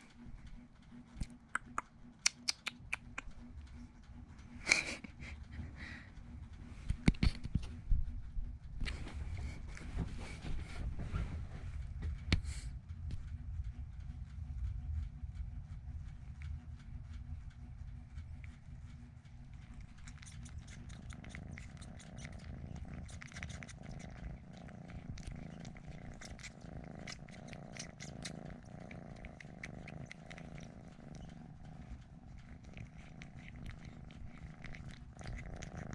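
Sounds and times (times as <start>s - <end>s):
cat purring: 0.0s - 35.9s
faint clicks and crackles: 0.0s - 35.9s.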